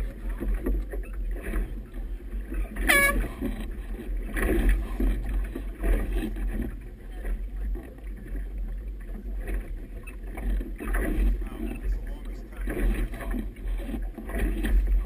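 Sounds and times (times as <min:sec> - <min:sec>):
water splashing against boat hull: 0:00.0 - 0:15.0
wind rumble on microphone: 0:00.0 - 0:15.0.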